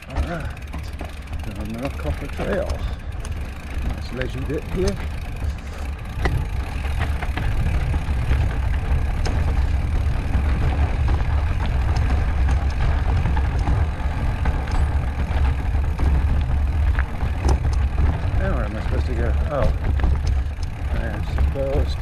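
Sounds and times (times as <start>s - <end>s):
bike clicks and rattles on rock: 0.0s - 22.0s
wind rumble on microphone: 2.4s - 22.0s.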